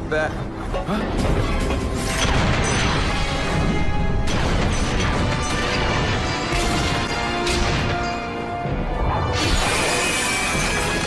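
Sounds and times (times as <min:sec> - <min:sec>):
dramatic music score: 0:00.0 - 0:11.0.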